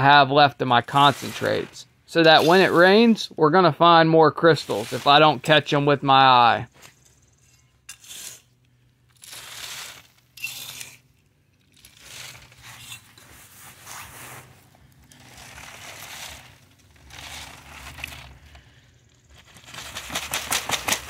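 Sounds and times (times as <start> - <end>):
dirt scraping across wire-mesh screen: 0.0 - 3.2, 4.4 - 20.8.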